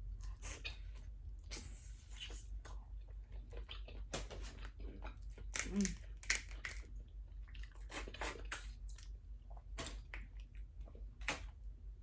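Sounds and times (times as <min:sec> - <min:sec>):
faint low hum: 0:00.0 - 0:12.0
wet chewing and mouth smacks: 0:00.1 - 0:11.6.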